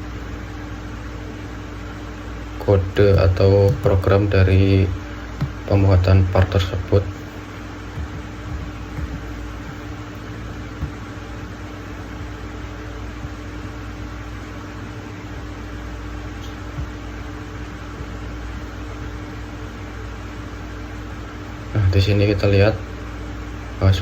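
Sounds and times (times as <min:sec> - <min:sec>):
room hiss and low hum: 0:00.0 - 0:24.0.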